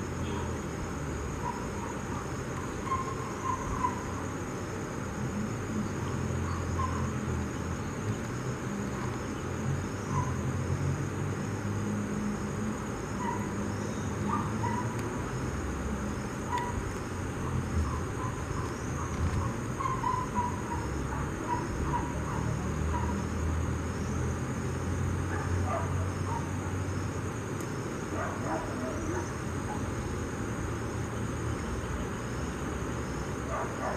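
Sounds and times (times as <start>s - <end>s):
high insect buzz: 0.0s - 33.9s.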